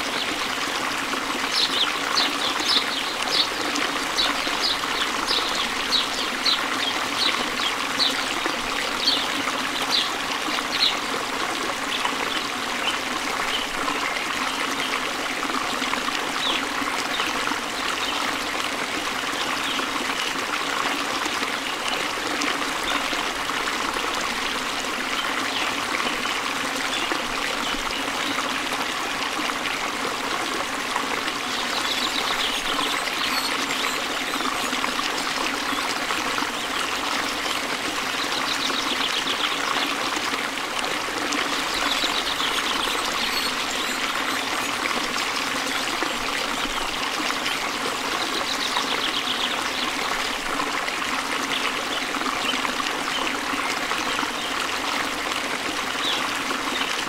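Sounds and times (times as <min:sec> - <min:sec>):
rushing stream water: 0:00.0 - 0:57.0.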